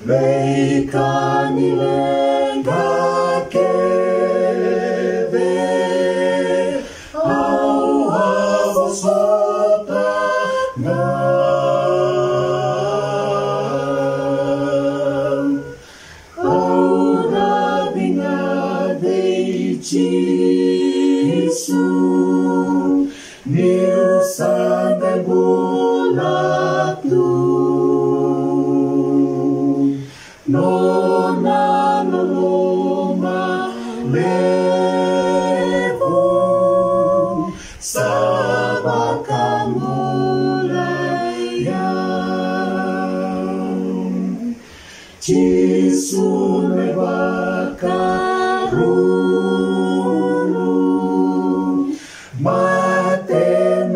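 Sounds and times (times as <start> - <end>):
group singing a hymn a cappella: 0.0 - 53.9.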